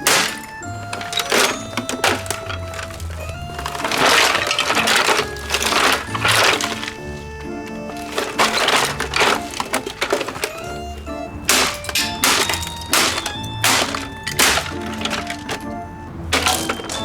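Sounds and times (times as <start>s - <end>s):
background music: 0.0s - 17.0s
plastic cracking from blows: 0.0s - 17.0s.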